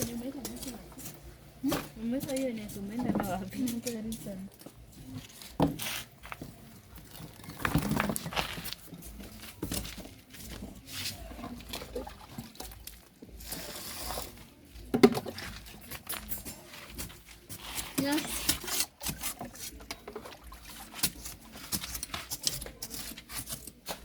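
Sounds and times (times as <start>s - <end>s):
knocks and rustles of handling: 0.0s - 24.0s.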